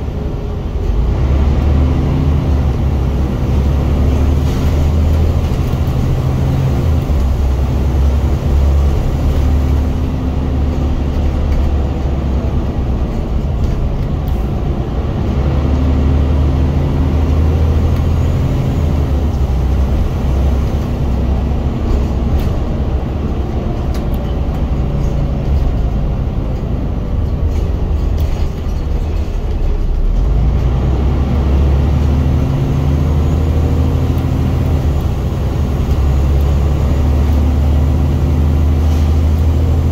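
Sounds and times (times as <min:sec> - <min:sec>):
bus diesel engine accelerating: 0:00.0 - 0:39.9.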